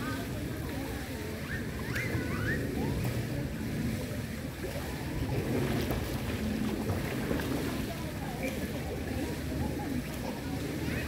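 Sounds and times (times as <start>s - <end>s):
wind buffeting microphone: 0.0s - 10.8s
water lapping and sloshing: 0.0s - 11.0s.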